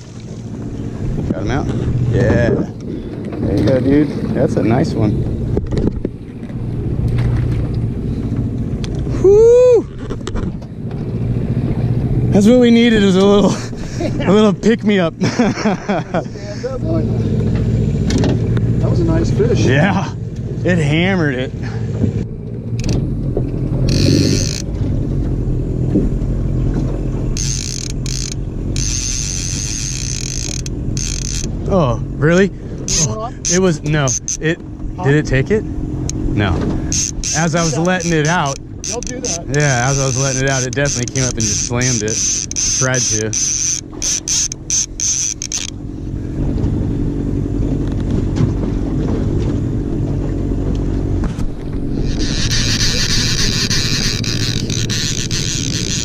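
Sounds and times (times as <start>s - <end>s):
outboard motor humming: 0.0s - 56.0s.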